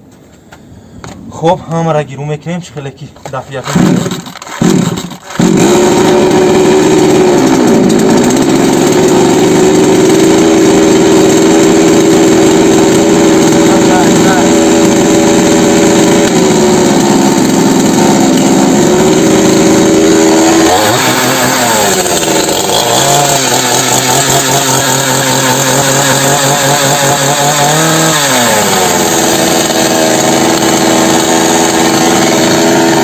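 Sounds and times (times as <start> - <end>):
chainsaw engine revving and idling: 3.6 - 33.0.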